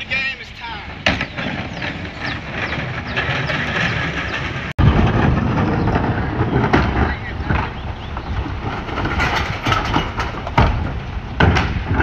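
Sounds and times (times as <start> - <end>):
garbage truck diesel engine: 0.0 - 12.0
cart banging against hopper: 0.9 - 12.0
metallic clatter: 1.0 - 12.0.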